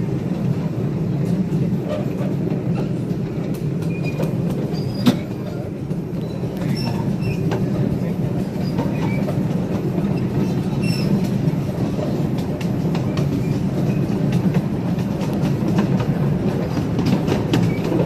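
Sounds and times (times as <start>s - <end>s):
train cars rumbling along track: 0.0s - 18.0s
wheels clicking over rails: 0.3s - 18.0s.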